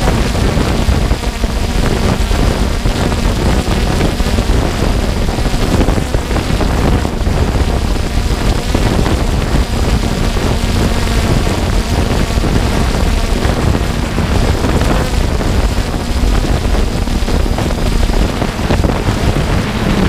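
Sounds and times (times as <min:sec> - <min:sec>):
quadcopter propeller hum: 0:00.0 - 0:20.0
wind rush: 0:00.0 - 0:20.0.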